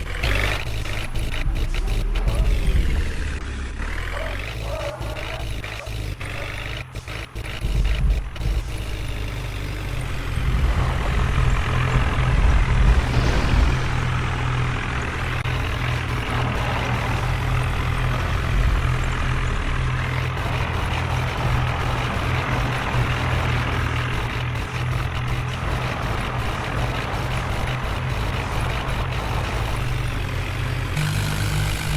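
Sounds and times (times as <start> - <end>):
engine knocks: 0.0 - 31.9
heavy diesel engine running: 0.0 - 31.9.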